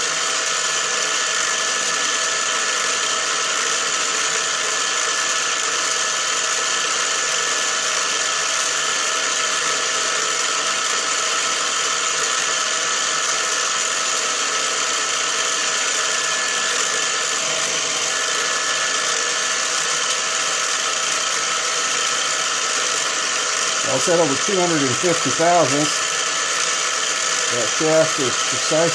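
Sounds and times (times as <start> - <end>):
milling machine whine: 0.0 - 28.9.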